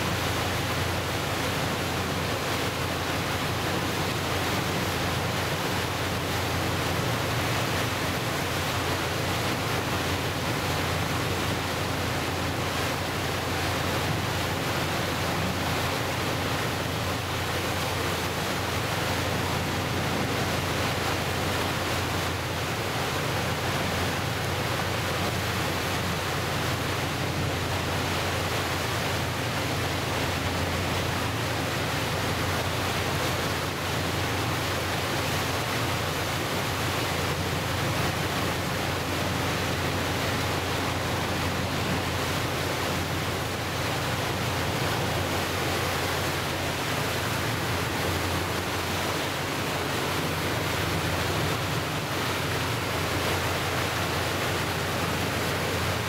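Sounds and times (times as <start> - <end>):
water rushing from boat wake: 0.0 - 56.0.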